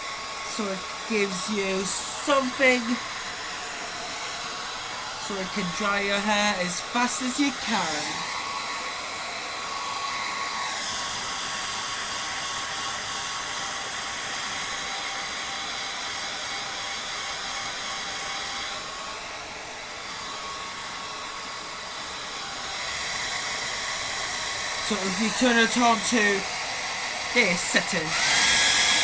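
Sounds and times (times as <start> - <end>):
hair dryer blowing air: 0.0 - 29.0.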